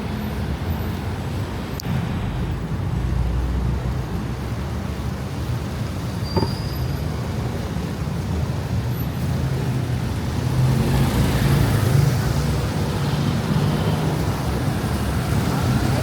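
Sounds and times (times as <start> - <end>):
passing vehicles hissing: 0.0 - 16.0
traffic engine hum: 0.0 - 16.0.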